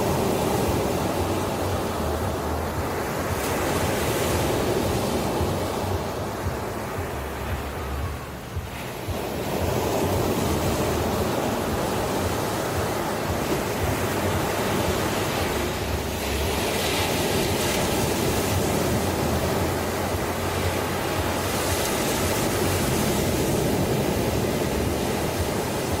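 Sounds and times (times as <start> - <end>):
ocean surf washing ashore: 0.0 - 26.0.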